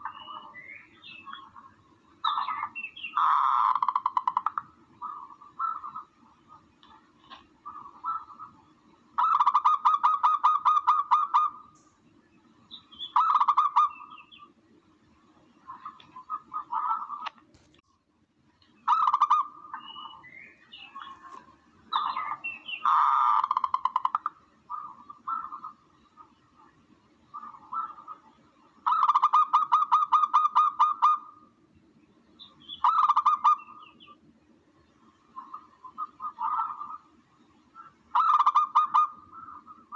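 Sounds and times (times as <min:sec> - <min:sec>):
recorded dove call: 0:00.0 - 0:11.8, 0:12.7 - 0:14.6, 0:15.6 - 0:17.4, 0:18.7 - 0:31.5, 0:32.4 - 0:34.2, 0:35.3 - 0:39.9
faint steady hum: 0:00.0 - 0:39.9.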